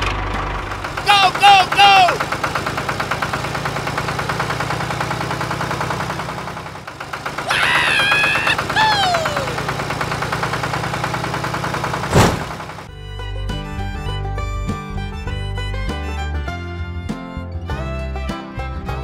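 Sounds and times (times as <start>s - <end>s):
tractor engine idling: 0.0s - 16.2s.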